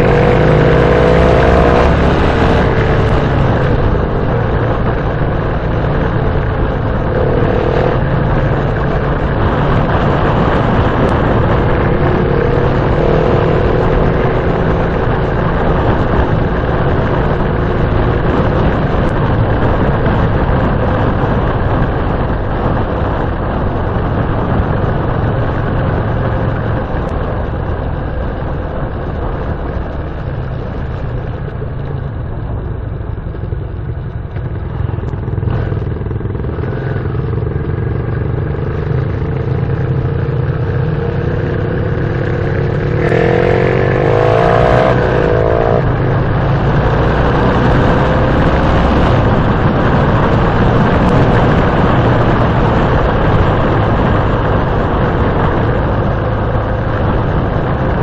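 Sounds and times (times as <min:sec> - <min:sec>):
motorcycle engines droning: 0:00.0 - 0:58.0
rough engine sound: 0:00.0 - 0:58.0.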